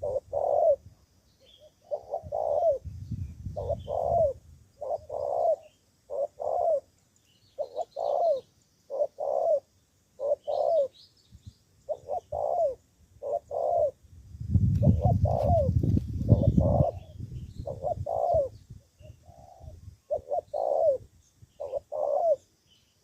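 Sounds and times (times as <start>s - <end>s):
dove cooing: 0.0s - 2.9s, 3.6s - 6.9s, 7.5s - 11.0s, 11.9s - 14.0s, 14.8s - 22.5s.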